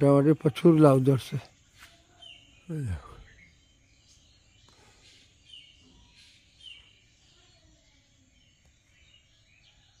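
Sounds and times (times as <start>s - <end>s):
high bird chirps: 1.5s - 10.0s.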